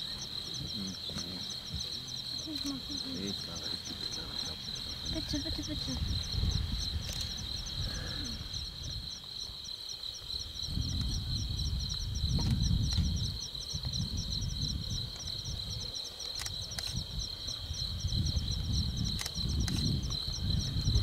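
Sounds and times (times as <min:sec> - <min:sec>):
crickets chirping: 0:00.0 - 0:21.0
insect chirping: 0:00.0 - 0:21.0.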